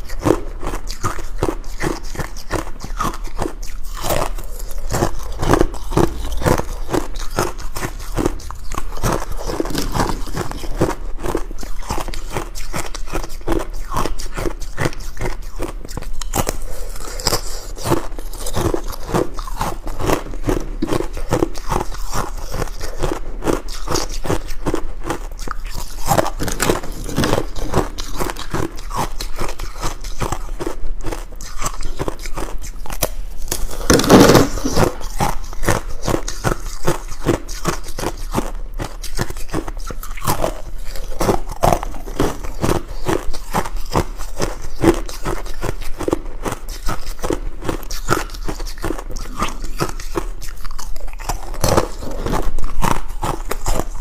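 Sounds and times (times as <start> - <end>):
ice crunching being chewed: 0.0 - 54.0.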